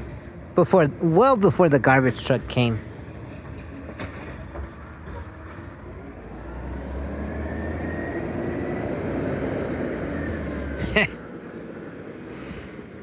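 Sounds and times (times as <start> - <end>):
garbage truck engine rumble: 0.0 - 13.0.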